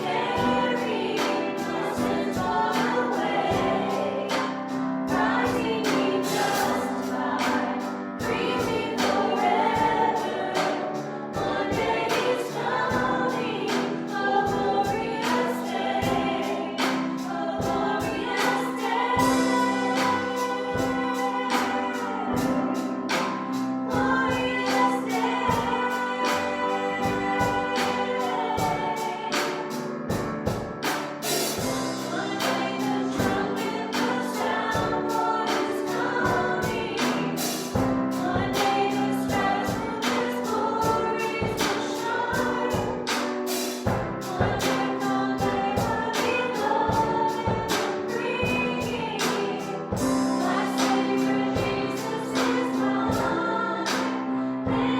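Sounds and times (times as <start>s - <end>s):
praise band and singers: 0.0s - 54.9s
steady drum beat: 0.0s - 54.9s.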